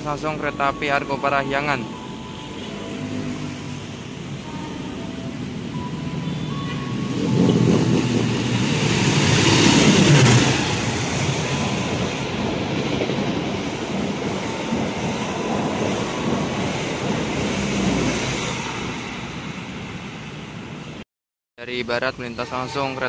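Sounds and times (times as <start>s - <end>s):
diesel locomotive passing: 0.0s - 21.0s
train coaches rolling rumble: 0.0s - 21.0s.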